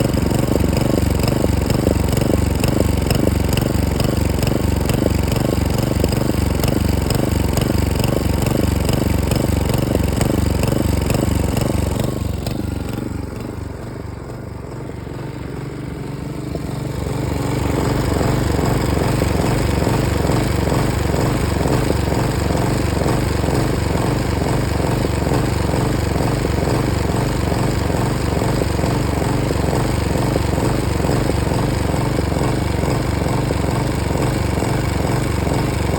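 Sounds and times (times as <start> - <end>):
lawn mower engine misfiring: 0.0 - 35.9.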